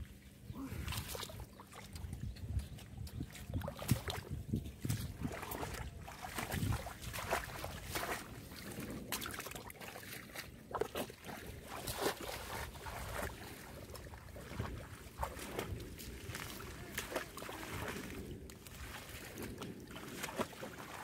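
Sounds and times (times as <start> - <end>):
muddy water splashing: 0.0 - 21.0.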